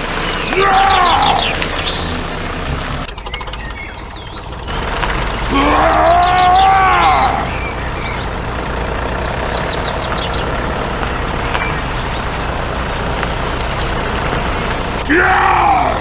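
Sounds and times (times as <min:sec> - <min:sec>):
motor running with low hum: 0:00.0 - 0:15.9.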